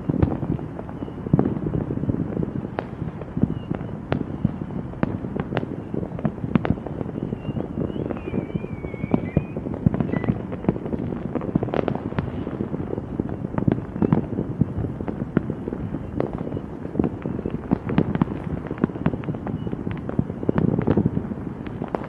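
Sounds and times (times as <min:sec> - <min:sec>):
fireworks cracking and banging: 0:00.0 - 0:22.0.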